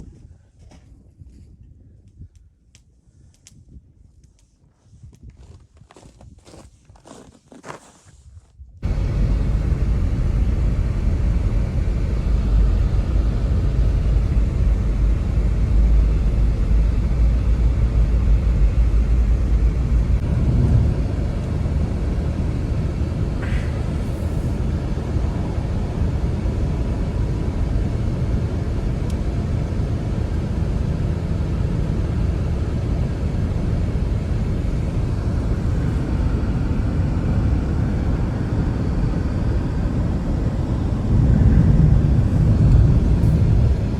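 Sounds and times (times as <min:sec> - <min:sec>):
snowstorm wind rumbling: 0:03.1 - 0:43.9.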